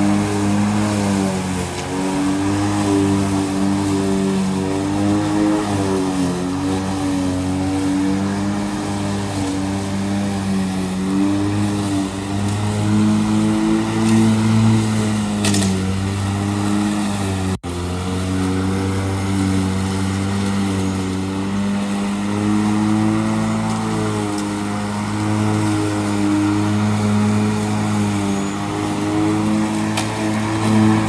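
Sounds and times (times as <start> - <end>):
electric lawn mower running: 0.0 - 31.0.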